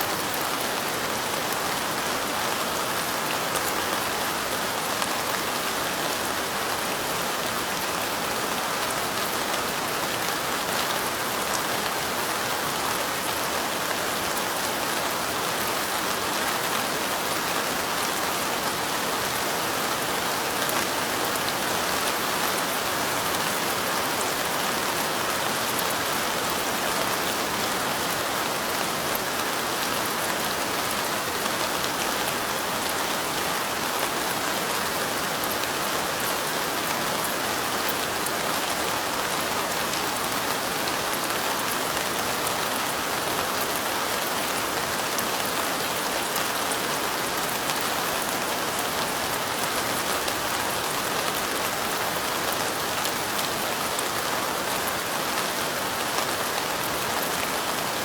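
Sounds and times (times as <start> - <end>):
light rain: 0.0 - 58.0.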